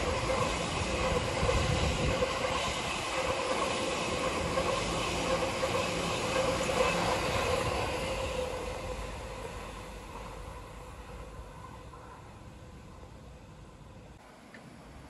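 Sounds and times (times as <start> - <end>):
train wheels rumbling on track: 0.0 - 14.2.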